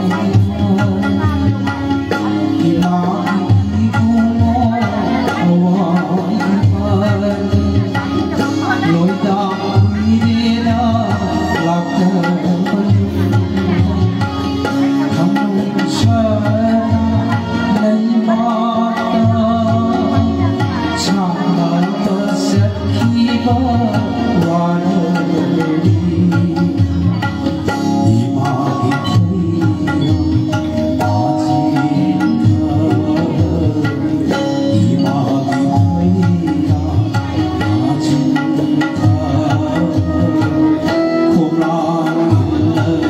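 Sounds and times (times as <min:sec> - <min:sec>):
electronic keyboard: 0:00.0 - 0:43.0
tabla rhythm: 0:00.0 - 0:43.0.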